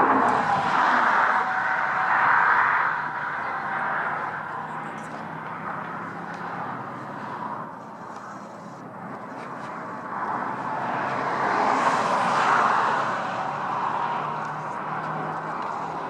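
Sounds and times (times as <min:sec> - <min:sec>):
vehicle passing by: 0:00.0 - 0:07.8, 0:09.4 - 0:16.0
background road traffic: 0:00.0 - 0:16.0.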